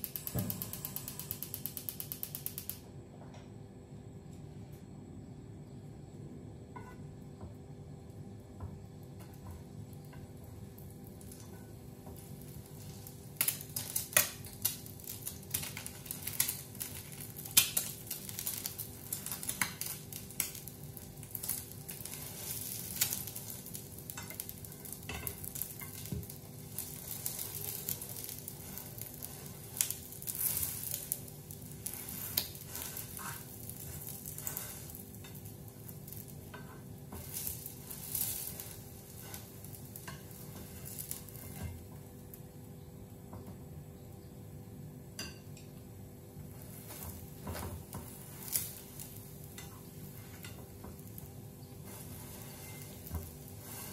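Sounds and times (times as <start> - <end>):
egg sizzling in hot oil: 0.0 - 2.8, 7.9 - 42.8, 45.0 - 53.9
oil crackling and popping: 0.0 - 2.8, 8.8 - 42.5, 46.5 - 53.9.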